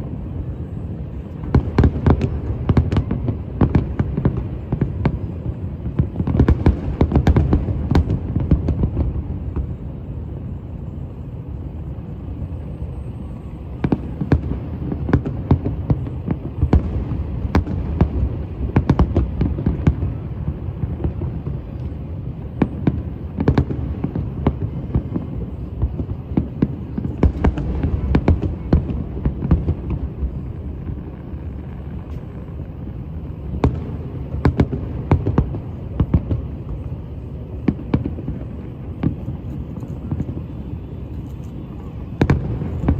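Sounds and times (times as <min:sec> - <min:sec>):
fireworks bangs and pops: 0:01.0 - 0:10.5, 0:13.7 - 0:42.9.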